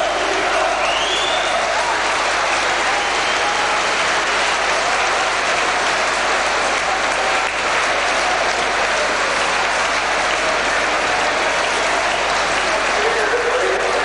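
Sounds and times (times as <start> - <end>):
football crowd applauding: 0.0 - 14.0.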